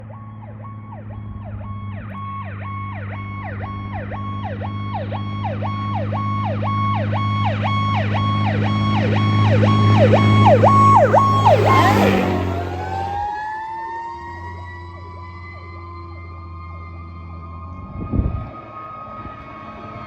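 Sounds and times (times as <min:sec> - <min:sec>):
fire engine siren yelping: 0:00.0 - 0:20.0.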